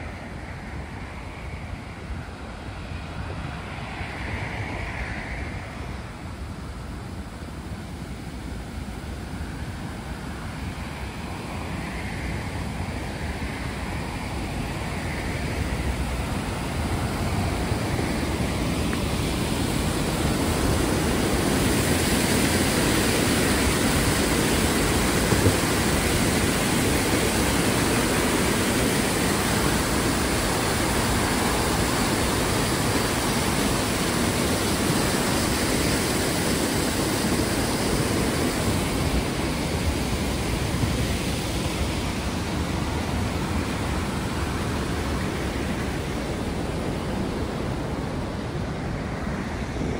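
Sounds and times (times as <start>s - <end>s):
white water rushing from culvert: 0.0s - 49.9s.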